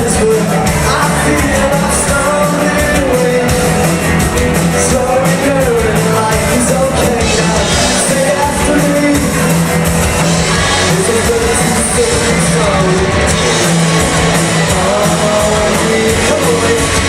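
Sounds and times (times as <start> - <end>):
drums and cymbals: 0.0 - 17.0
person singing: 0.0 - 17.0
rock band playing: 0.0 - 17.0.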